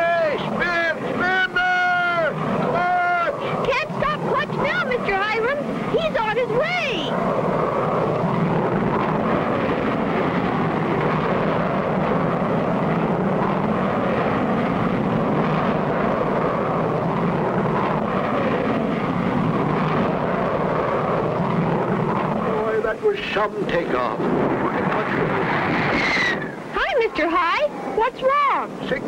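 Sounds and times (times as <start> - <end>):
jet engine rushing: 0.0 - 29.0.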